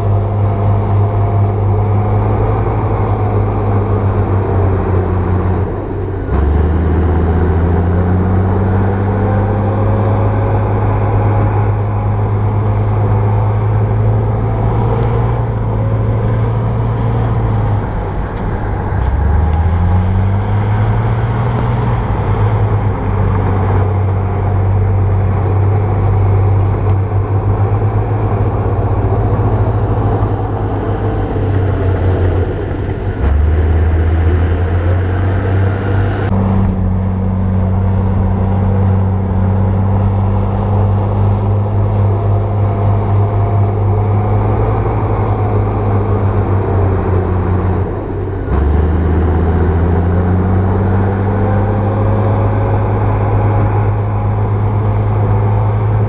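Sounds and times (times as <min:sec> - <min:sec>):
heavy diesel engine droning: 0:00.0 - 0:56.0.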